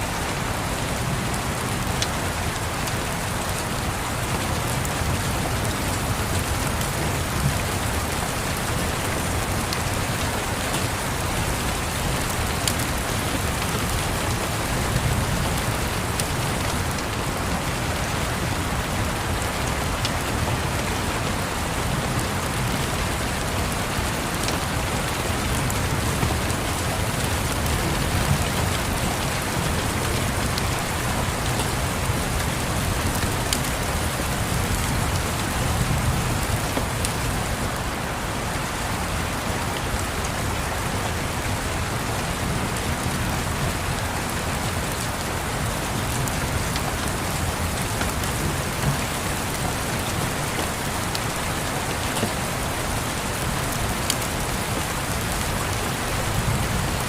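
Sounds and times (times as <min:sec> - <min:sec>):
rain on windows: 0:00.0 - 0:57.0.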